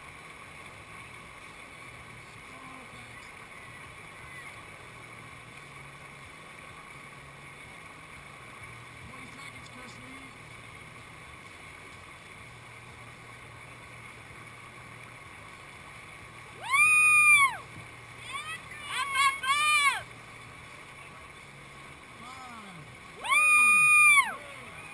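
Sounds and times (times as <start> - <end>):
rush of whitewater: 0.0 - 24.9.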